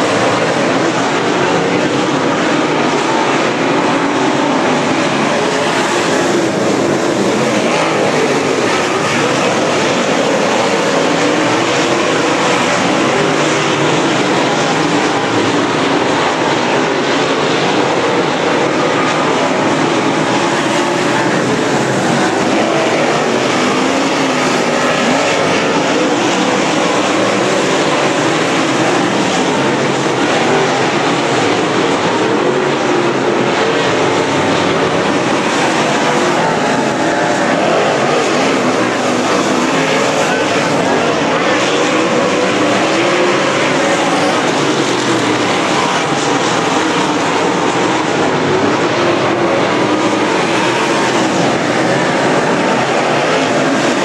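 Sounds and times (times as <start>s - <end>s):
race car engines roaring: 0.0s - 54.0s.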